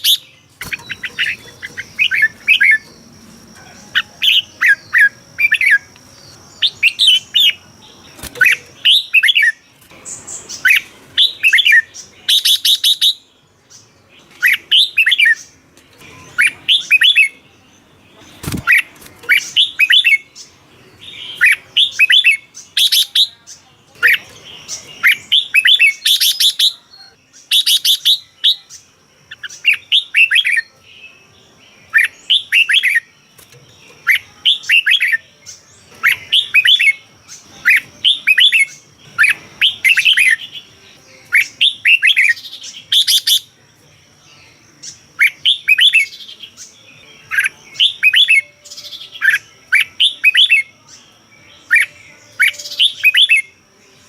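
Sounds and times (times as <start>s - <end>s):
bulbul singing whistled notes: 0.0s - 13.3s, 14.3s - 17.4s, 18.3s - 30.8s, 31.8s - 54.0s.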